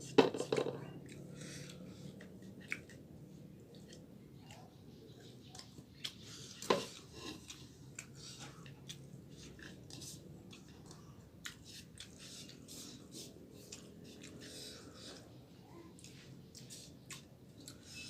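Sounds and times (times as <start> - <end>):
chewing and mouth clicks: 0.8 - 18.0.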